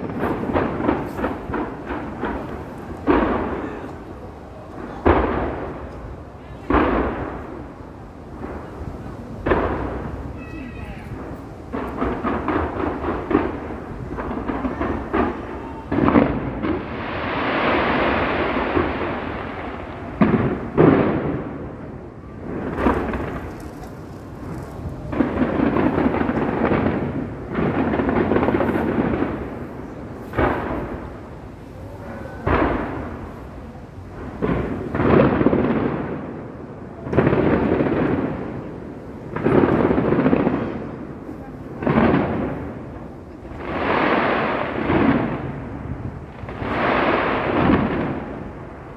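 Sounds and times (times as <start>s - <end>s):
fireworks exploding with bangs: 0.0s - 48.9s.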